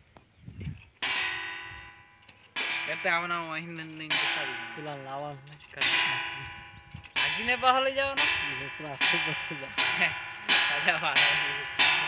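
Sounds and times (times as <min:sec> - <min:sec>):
metallic clangs on metal plate: 0:01.0 - 0:12.0.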